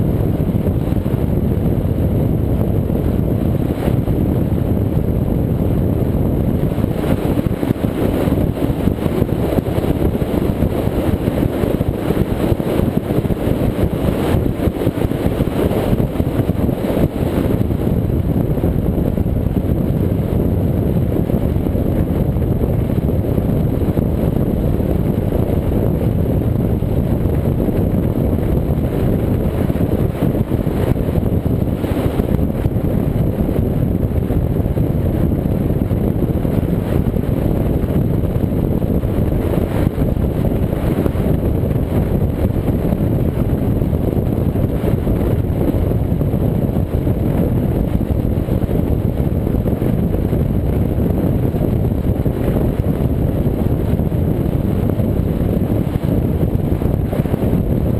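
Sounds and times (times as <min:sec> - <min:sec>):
powerboat engine drone: 0:00.0 - 0:57.9.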